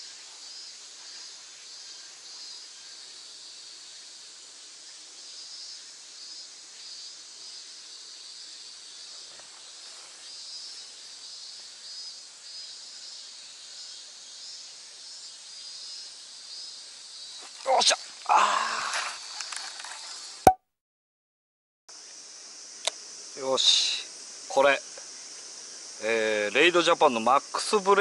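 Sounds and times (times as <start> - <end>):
cicadas droning: 0.0 - 20.4, 21.9 - 28.0.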